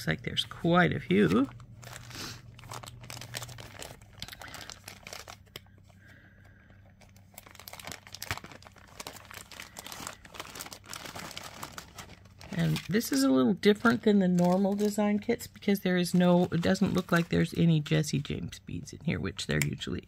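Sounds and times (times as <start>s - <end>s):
plastic bags crinkling: 1.1s - 17.9s.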